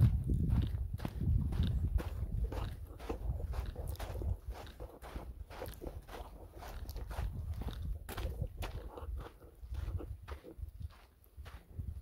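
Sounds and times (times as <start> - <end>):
low microphone rumble: 0.0 - 10.9
footsteps on gravel trail: 0.0 - 12.0.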